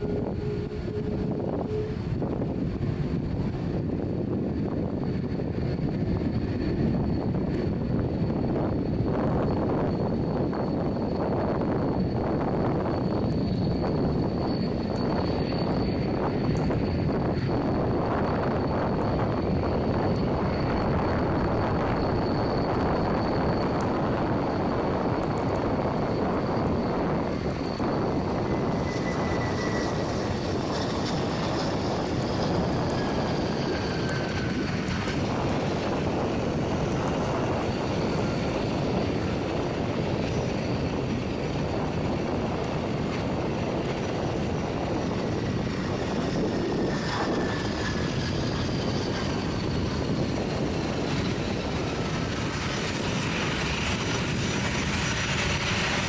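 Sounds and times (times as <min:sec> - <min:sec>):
jet engine roar: 0:00.0 - 0:56.0.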